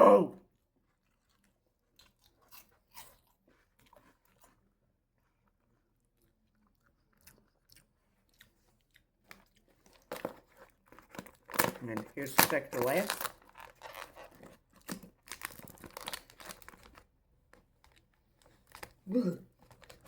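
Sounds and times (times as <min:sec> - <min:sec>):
faint chewing: 0:00.5 - 0:20.0.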